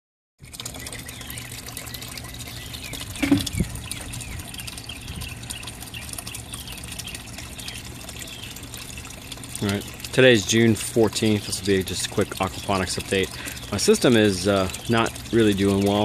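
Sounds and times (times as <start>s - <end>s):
water splashing into tank: 0.4s - 16.0s
birds chirping: 0.6s - 16.0s.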